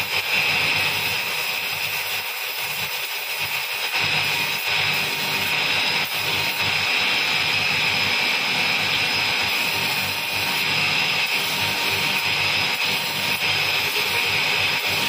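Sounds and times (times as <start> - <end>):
belt grinder grinding hiss: 0.0 - 15.0.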